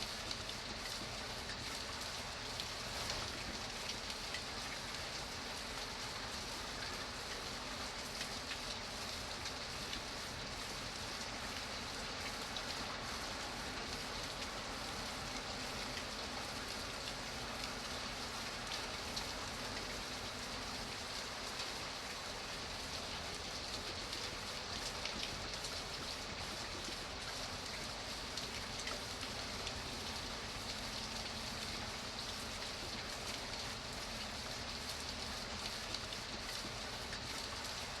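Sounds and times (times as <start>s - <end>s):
rain drops ticking: 0.0s - 38.0s.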